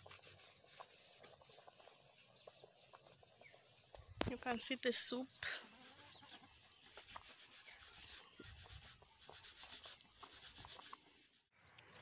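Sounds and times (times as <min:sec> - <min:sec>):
faint rubbing noise: 0:00.0 - 0:11.5.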